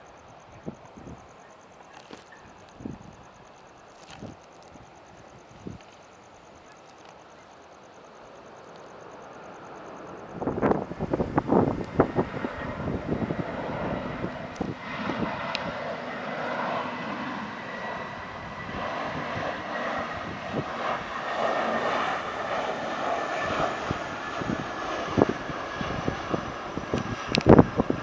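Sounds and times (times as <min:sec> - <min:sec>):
jet engines whine and rumble: 0:00.0 - 0:28.0
wind buffeting microphone: 0:00.4 - 0:01.4, 0:02.3 - 0:06.0, 0:10.2 - 0:28.0.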